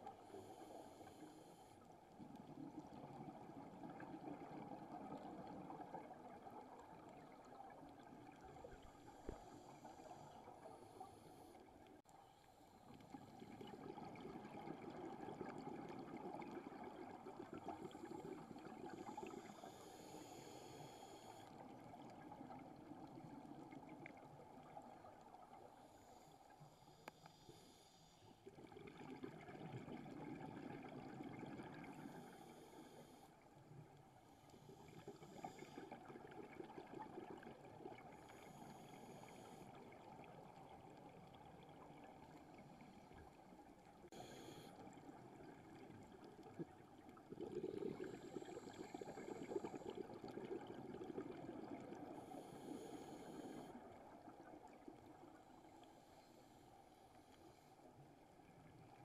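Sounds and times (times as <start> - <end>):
soft hissing: 0.0 - 29.2, 30.5 - 50.7, 51.3 - 58.9.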